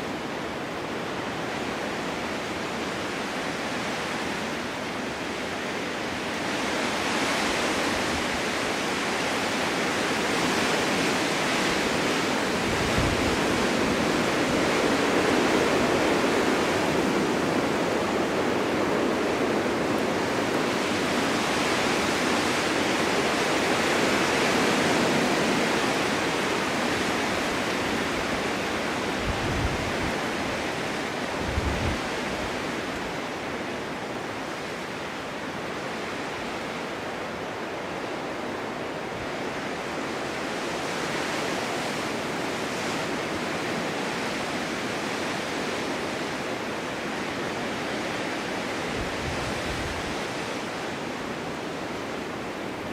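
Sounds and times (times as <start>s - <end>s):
snowstorm wind blowing: 0.0s - 52.9s.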